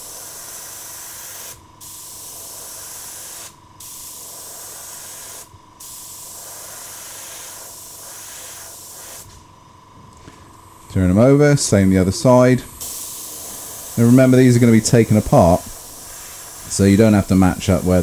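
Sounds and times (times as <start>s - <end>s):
airbrush air hiss: 0.0s - 9.5s, 10.2s - 18.0s.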